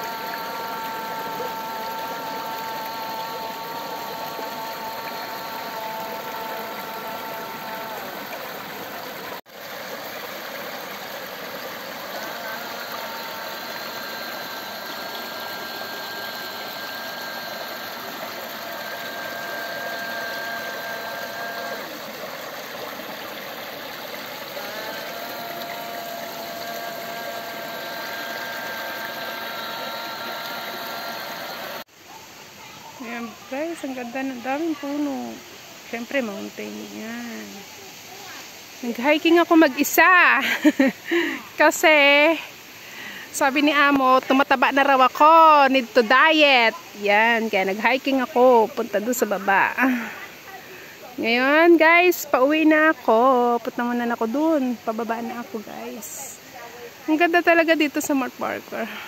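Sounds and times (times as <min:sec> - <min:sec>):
stream water running over rocks: 0:00.0 - 0:59.0.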